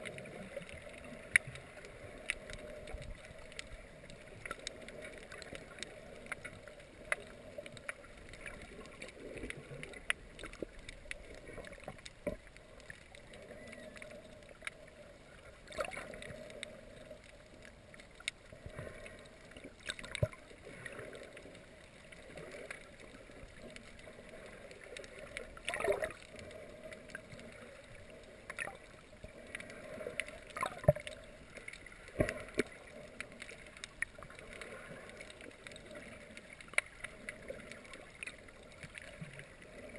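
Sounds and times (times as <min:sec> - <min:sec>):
gurgling water and bubbles: 0:00.0 - 0:39.9
muffled underwater rush: 0:00.0 - 0:39.9
sharp underwater clicks: 0:00.0 - 0:39.9.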